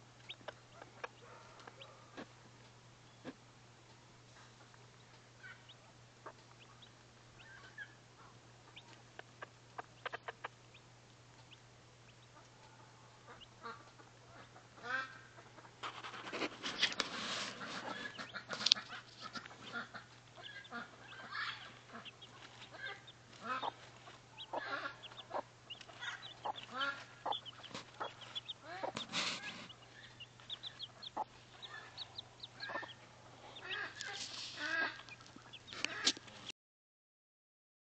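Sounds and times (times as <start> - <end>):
hen clucking: 0.0 - 2.3, 4.4 - 36.5
chicks peeping: 0.2 - 2.4, 4.3 - 36.5.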